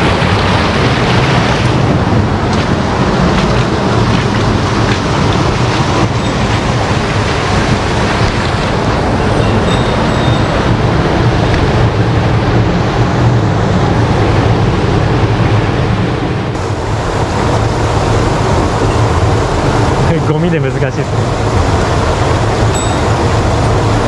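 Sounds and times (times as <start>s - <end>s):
water rushing through canal: 0.0s - 24.0s.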